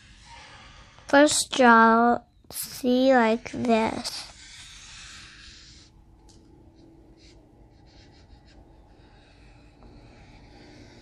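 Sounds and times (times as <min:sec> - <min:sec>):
marker scratching on paper: 0:00.0 - 0:01.4, 0:02.5 - 0:06.0, 0:06.8 - 0:11.0.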